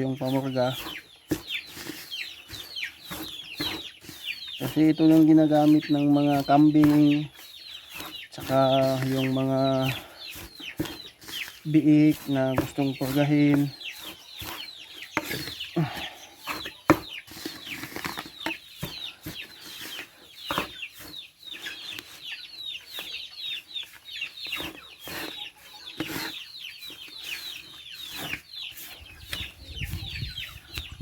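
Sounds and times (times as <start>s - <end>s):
chickens clucking and chirping: 0.0s - 31.0s.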